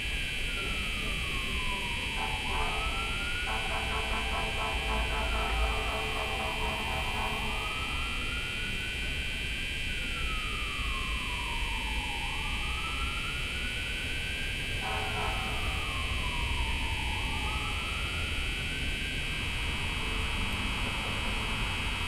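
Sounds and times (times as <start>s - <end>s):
cicadas droning: 0.0s - 22.0s
emergency vehicle siren wailing: 0.0s - 22.0s.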